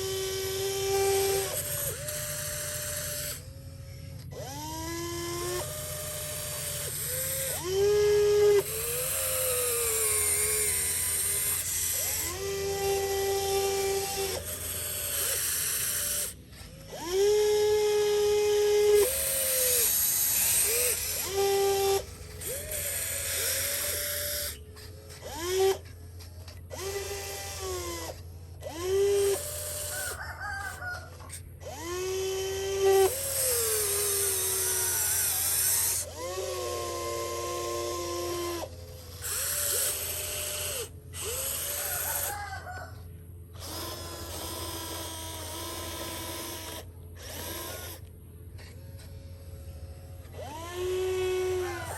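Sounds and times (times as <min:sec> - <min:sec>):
small electric motor whining: 0:00.0 - 0:51.9.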